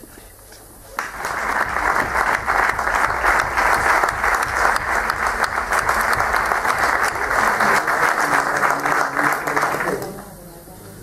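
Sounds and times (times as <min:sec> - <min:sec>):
audience applauding: 0:01.0 - 0:10.2.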